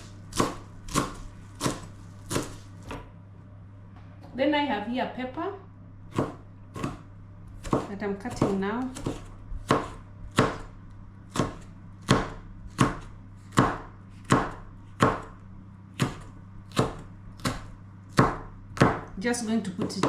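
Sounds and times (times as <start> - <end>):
knife chopping on a board: 0.0 - 3.1, 6.1 - 10.7, 11.3 - 20.0.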